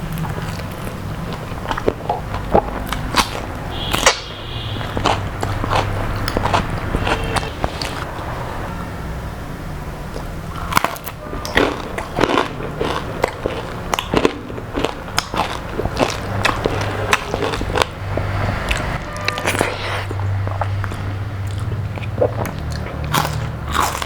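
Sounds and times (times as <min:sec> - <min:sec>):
crunchy chewing of fried food: 0:00.0 - 0:08.5, 0:10.1 - 0:24.0.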